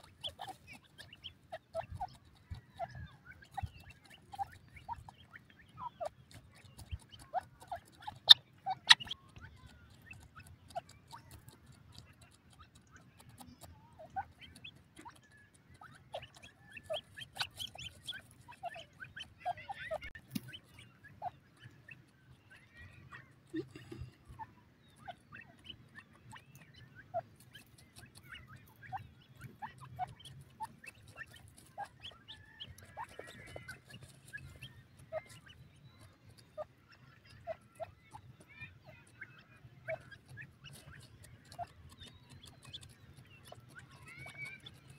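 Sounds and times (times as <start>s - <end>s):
chicks peeping: 0.0s - 44.9s
scratching and pecking in soil: 0.0s - 44.9s
young birds chirping: 0.0s - 44.9s.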